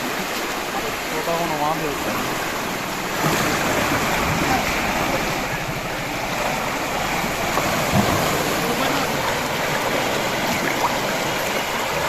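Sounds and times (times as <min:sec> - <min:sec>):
water rushing through sluice gate: 0:00.0 - 0:12.0.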